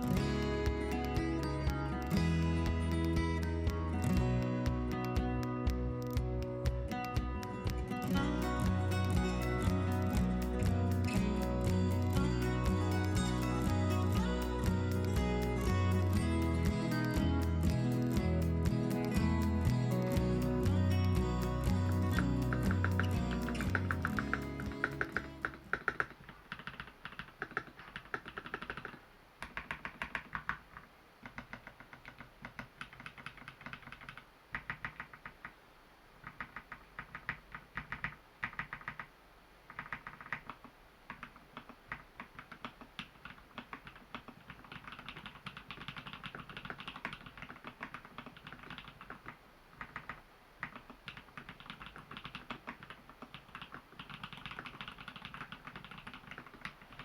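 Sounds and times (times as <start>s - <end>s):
mechanical keyboard typing: 4.0s - 35.6s, 36.2s - 39.1s, 39.7s - 57.0s.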